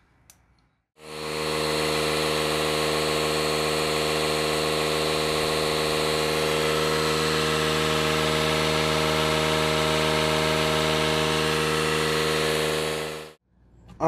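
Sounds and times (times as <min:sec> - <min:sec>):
tire inflator humming: 0:01.0 - 0:13.4.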